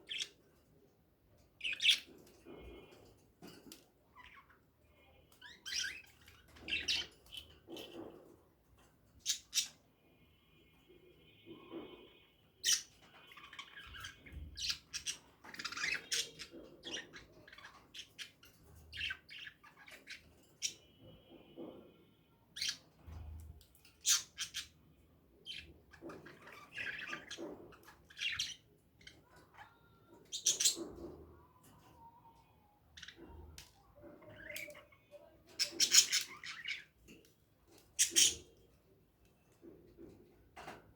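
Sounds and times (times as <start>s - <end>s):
birds squawking and chirping: 0.0s - 0.6s, 1.3s - 38.8s.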